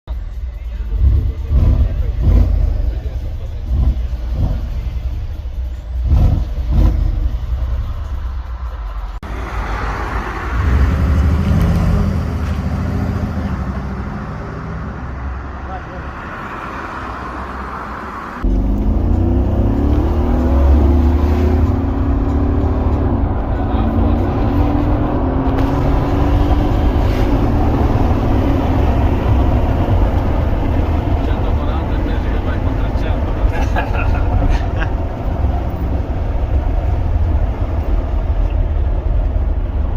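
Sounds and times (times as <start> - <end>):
car engine revving: 0.2 - 39.9
engine accelerating hard: 0.7 - 39.9
rushing noise: 1.7 - 39.9.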